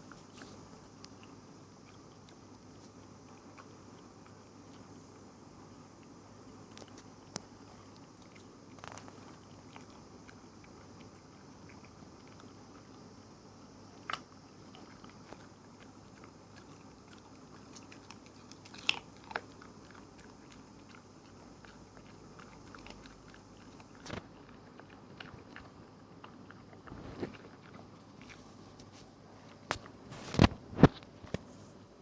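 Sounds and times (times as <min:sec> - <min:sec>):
small animal gnawing food: 0:00.0 - 0:31.5
low hiss: 0:00.0 - 0:32.0.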